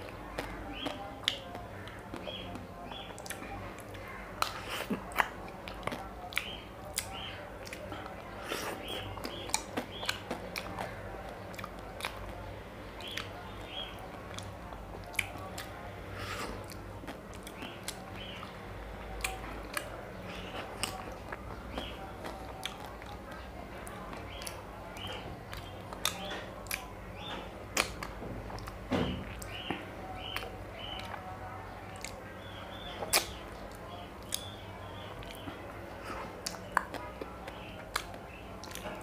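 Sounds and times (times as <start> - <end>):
person chewing: 0.0 - 12.4, 13.0 - 18.5, 19.2 - 26.8, 27.8 - 29.6, 33.0 - 34.6, 35.2 - 39.0.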